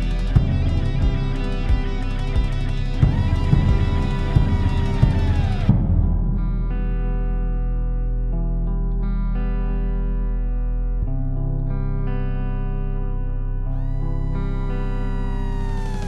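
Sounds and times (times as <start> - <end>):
electric guitar chords: 0.0 - 16.0.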